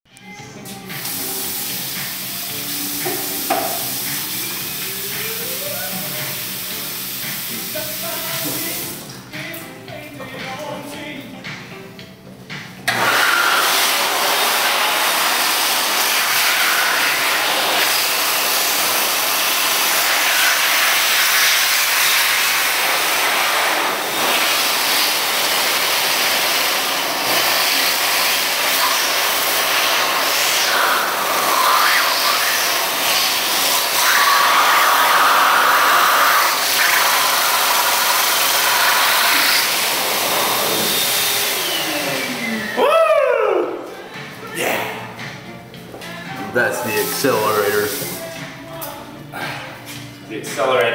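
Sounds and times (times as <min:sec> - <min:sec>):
electric hand dryer blowing air: 0:00.8 - 0:09.5, 0:12.5 - 0:44.3, 0:46.4 - 0:48.5.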